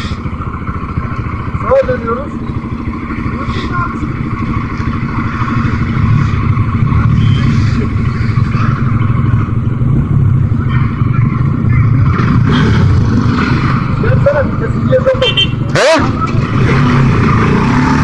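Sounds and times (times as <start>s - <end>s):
motorcycle engine running: 0.0s - 18.0s
road traffic: 0.0s - 18.0s.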